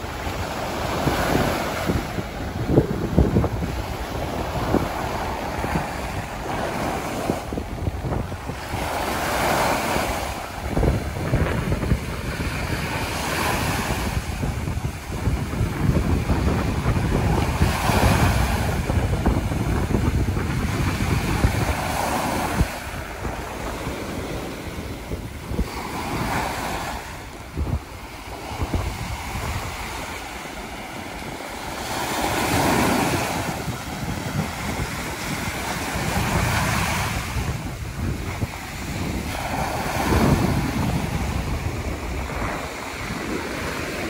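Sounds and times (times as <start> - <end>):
waves breaking on beach: 0.0 - 44.0
wind buffeting microphone: 0.0 - 44.0.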